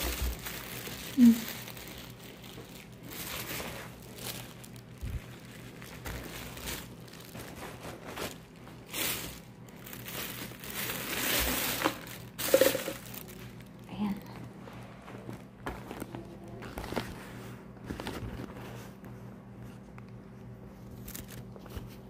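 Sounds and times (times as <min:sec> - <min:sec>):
rustling and crinkling: 0:00.0 - 0:22.0.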